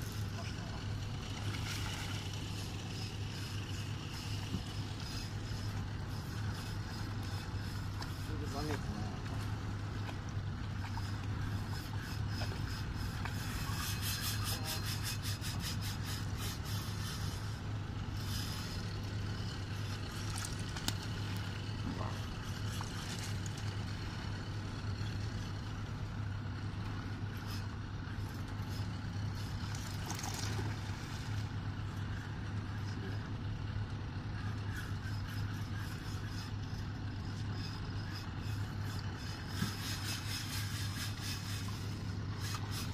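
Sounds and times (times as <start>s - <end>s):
boat engine idling: 0.0s - 42.9s.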